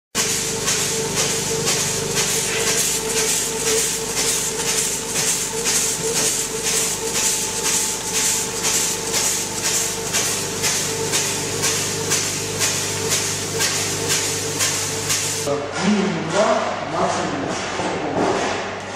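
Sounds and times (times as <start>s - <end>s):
machine hum: 0.2s - 17.9s.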